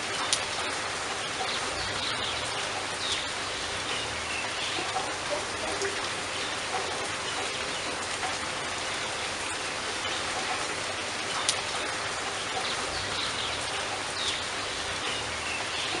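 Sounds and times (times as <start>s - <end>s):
rain on water and leaves: 0.0s - 16.0s.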